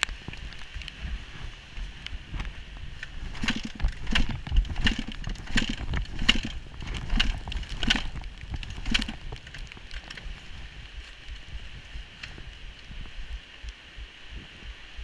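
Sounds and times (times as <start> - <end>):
dirt bike engine rumble: 0.0 - 13.4.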